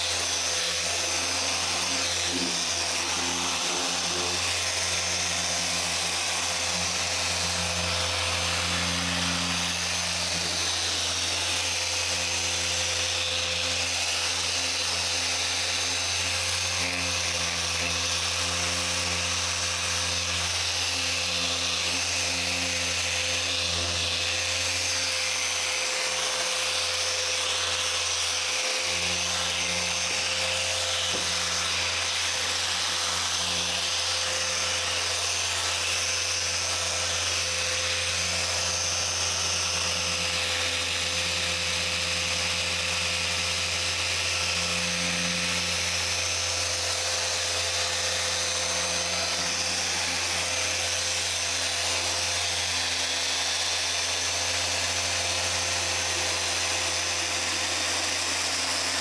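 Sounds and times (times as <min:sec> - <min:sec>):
car polisher motor whir: 0:00.0 - 0:59.0.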